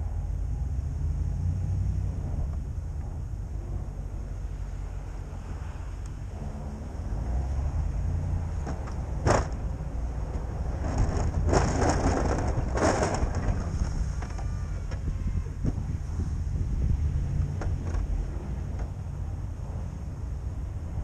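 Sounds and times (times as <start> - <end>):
wind on microphone: 1.2 - 21.0.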